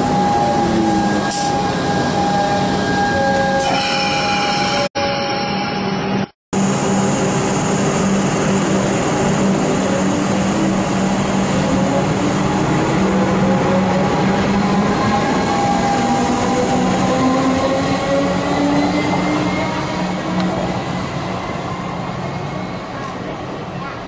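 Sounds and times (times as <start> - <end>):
electric train whine: 0.0 - 23.0.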